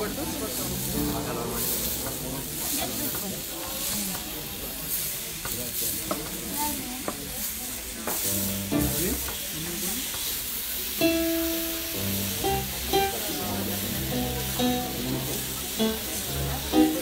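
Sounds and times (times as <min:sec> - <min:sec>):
steak sizzling: 0:00.0 - 0:17.0.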